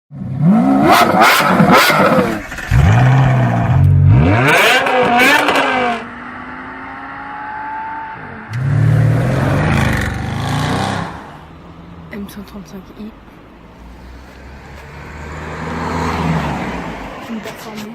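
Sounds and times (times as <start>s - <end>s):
car engine revving: 0.2s - 12.2s, 13.7s - 17.6s.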